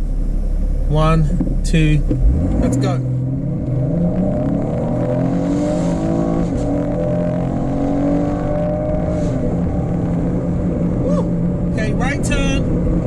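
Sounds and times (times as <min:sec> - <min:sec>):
car engine accelerating hard: 0:01.3 - 0:13.0.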